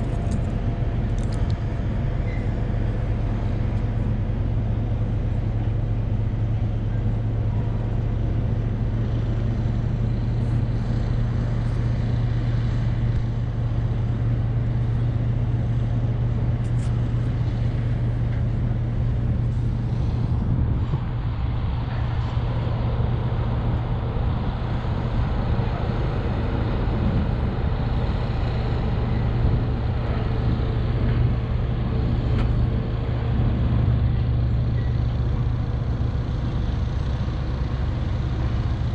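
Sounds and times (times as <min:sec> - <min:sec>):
road noise: 0:00.0 - 0:38.9
vehicle engine drone inside cab: 0:00.0 - 0:38.9.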